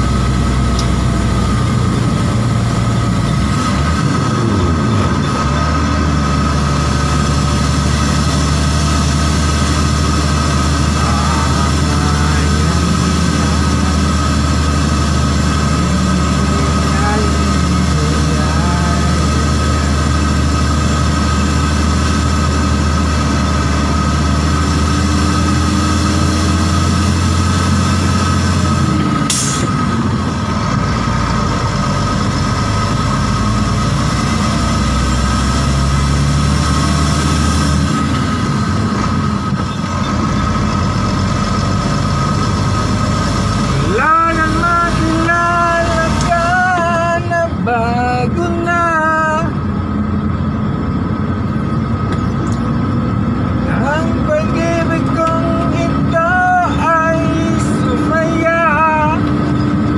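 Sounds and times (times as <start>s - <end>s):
truck diesel engine drone: 0.0s - 59.9s
whining tones: 0.0s - 59.9s.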